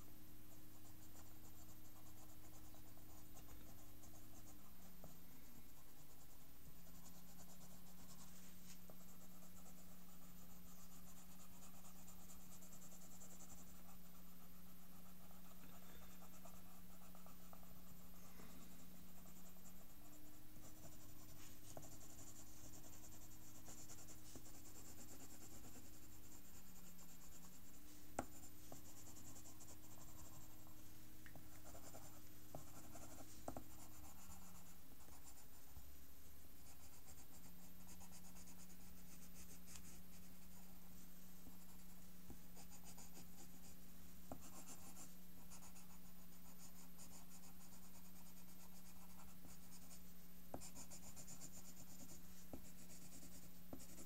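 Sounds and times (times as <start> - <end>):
steady low hum: 0.0 - 54.0
pencil scratching on paper: 0.5 - 35.8, 36.6 - 54.0.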